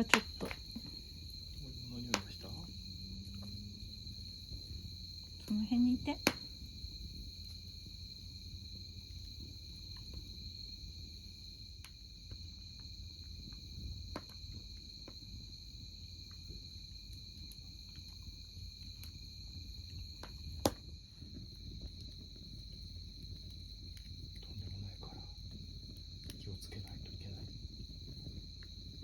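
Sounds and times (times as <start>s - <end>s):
campfire crackling and popping: 0.0s - 29.0s
insects trilling: 0.0s - 29.0s.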